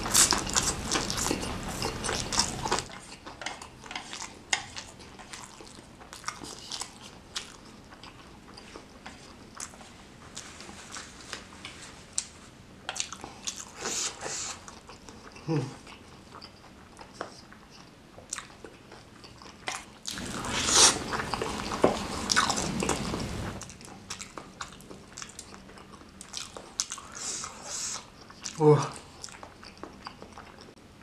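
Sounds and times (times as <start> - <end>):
person chewing: 0.0 - 30.8.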